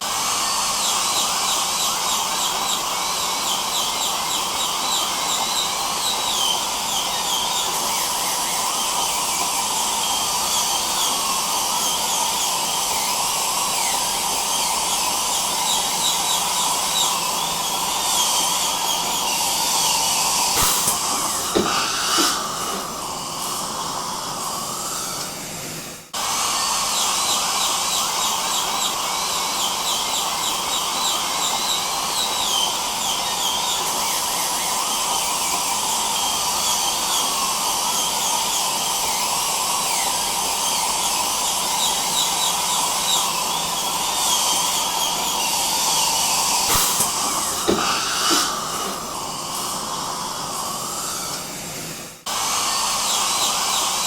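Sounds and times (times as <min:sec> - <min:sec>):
dental drill and suction hiss: 0:00.0 - 0:54.0.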